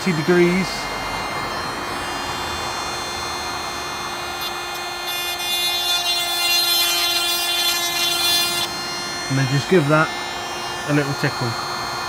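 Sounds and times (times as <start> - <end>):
grinding motor whining: 0.0 - 12.0
grinding wheel on metal: 0.0 - 12.0.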